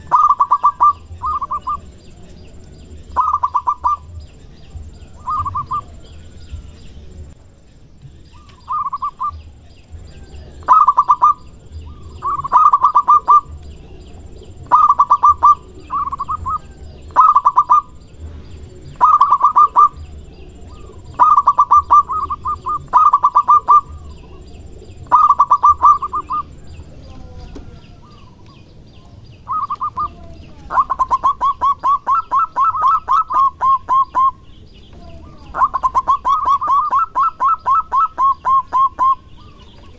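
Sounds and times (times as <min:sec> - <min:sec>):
dove rapid staccato cooing: 0:00.0 - 0:07.4, 0:08.3 - 0:39.9.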